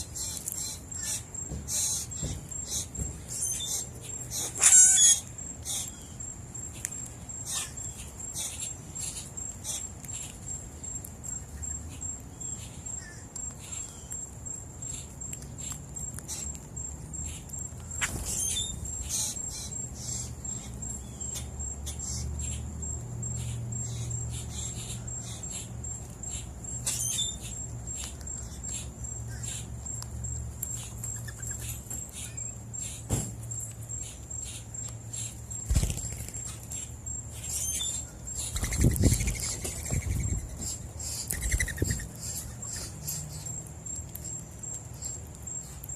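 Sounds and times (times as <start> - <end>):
insect trilling: 0.0 - 6.2, 6.8 - 10.3, 16.2 - 44.4
birds chirping: 0.0 - 45.9.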